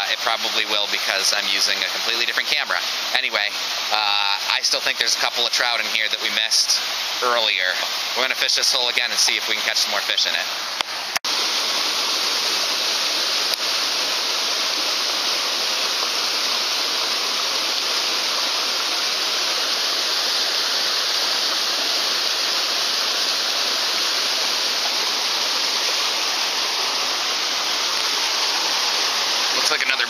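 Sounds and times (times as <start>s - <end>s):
water rushing into pool: 0.0s - 30.0s.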